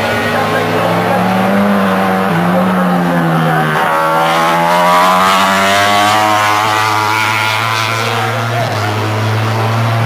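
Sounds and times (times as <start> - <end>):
racing motorcycles revving: 0.0 - 10.0.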